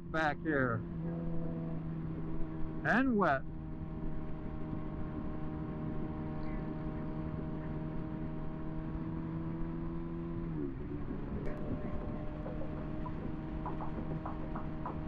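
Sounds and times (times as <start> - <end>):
motorcycle engine cruising: 0.0 - 15.0
low wind rumble: 0.8 - 15.0.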